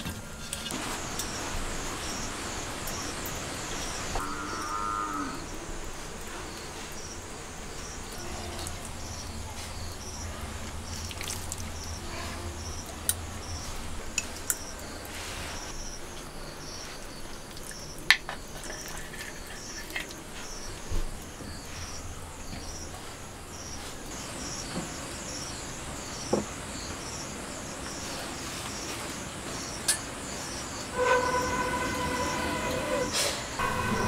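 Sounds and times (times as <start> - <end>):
insects chirping: 0.4 - 34.0.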